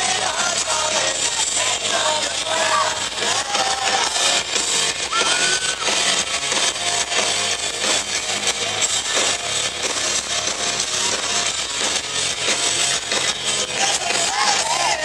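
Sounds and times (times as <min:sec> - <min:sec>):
distorted electric guitars: 0:00.0 - 0:15.0
driving drum beat: 0:00.0 - 0:15.0.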